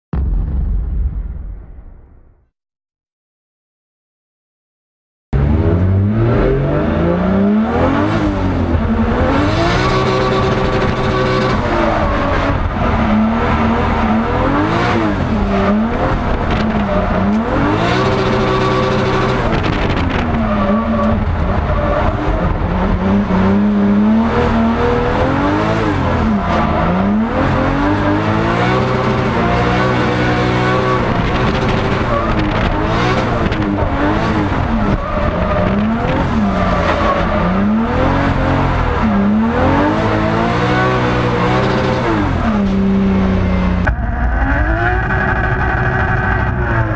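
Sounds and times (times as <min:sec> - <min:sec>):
car engine revving: 0:05.4 - 0:46.9.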